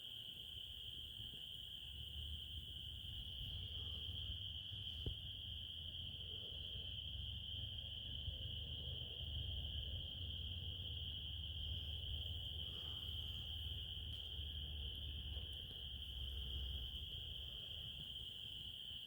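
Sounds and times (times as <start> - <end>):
crickets trilling: 0.0 - 19.0
low steady rumble: 1.9 - 18.7.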